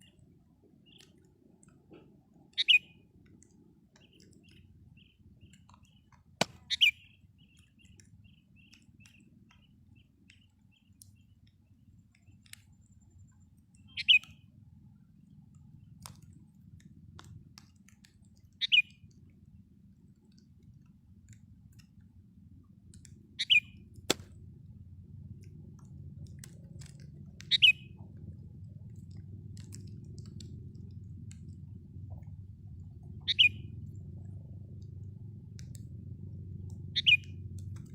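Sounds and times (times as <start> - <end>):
faint soft bird chirps: 0.0 - 17.0, 17.6 - 22.0, 23.0 - 23.9, 27.2 - 35.1, 36.7 - 37.9.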